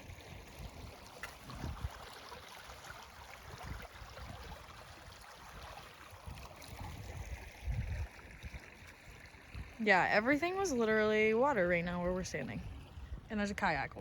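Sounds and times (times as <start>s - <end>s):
creek water running over rocks: 0.0s - 14.0s.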